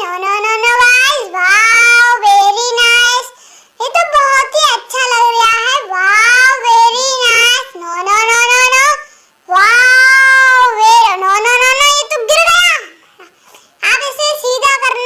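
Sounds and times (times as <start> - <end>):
high childlike voice singing: 0.0 - 15.0.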